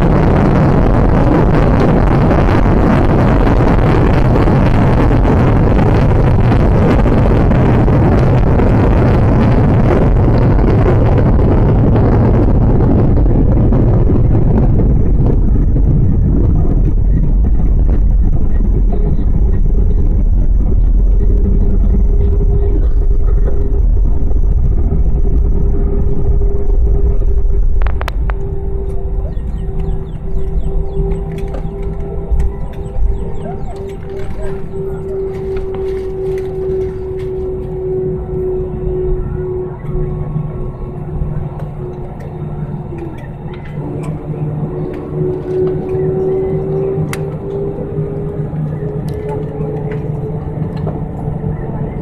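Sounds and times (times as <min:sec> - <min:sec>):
airliner cabin rumble: 0:00.0 - 0:52.0
steady hum: 0:00.0 - 0:52.0.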